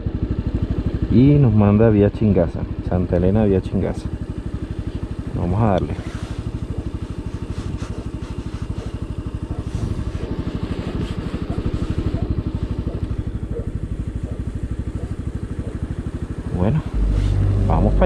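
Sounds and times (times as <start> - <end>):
scooter engine idling: 0.0 - 18.0.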